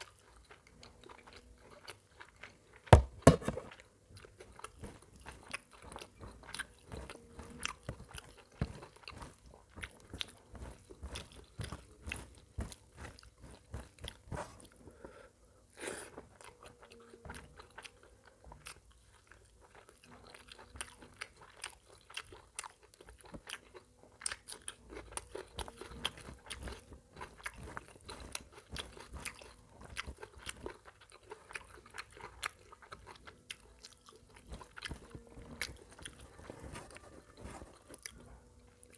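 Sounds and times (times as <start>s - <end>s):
chewing and mouth smacking: 0.0s - 14.8s, 16.1s - 38.9s.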